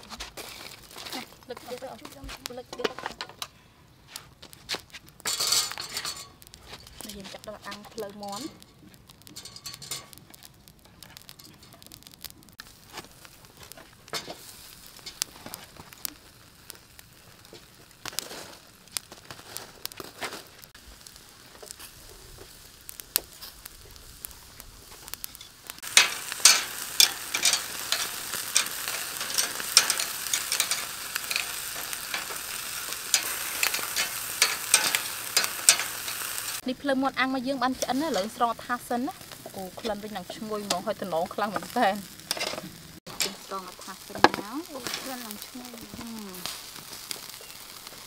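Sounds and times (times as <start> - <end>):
crackling and popping: 0.0 - 48.0
meat sizzling on a grill: 0.0 - 48.0.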